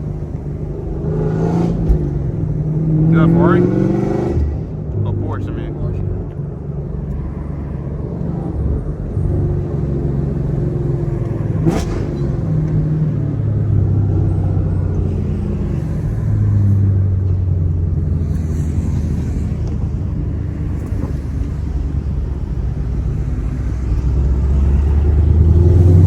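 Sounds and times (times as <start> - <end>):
car engine cruising: 0.0 - 26.0.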